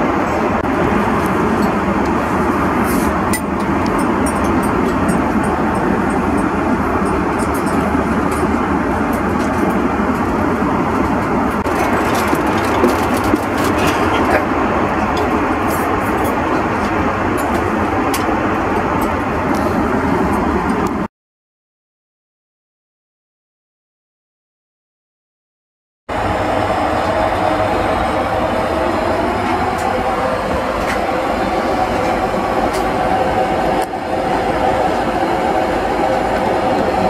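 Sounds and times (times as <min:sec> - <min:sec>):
airplane cabin engine roar: 0:00.0 - 0:21.1, 0:26.1 - 0:37.0.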